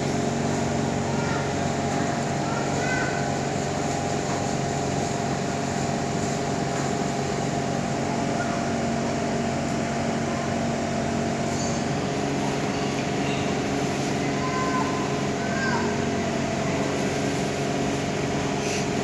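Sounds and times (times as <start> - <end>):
train carriage interior rush: 0.0 - 19.0.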